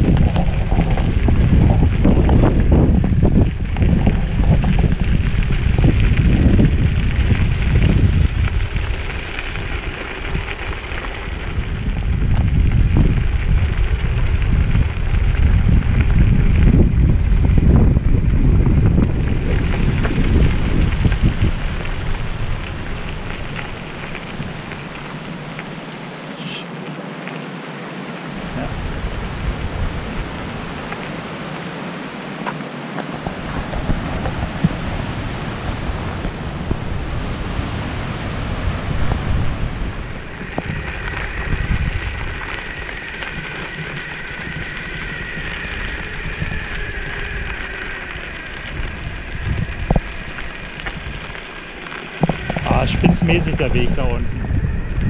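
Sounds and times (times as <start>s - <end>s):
wind buffeting microphone: 0.0s - 26.2s, 28.0s - 55.0s
wheels rolling on gravel: 0.0s - 55.0s
thin steady whine: 6.6s - 55.0s.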